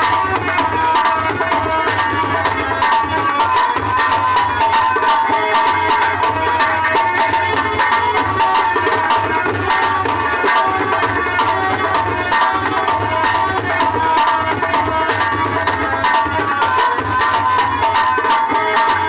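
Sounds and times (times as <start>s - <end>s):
hand drum beat: 0.0s - 19.0s.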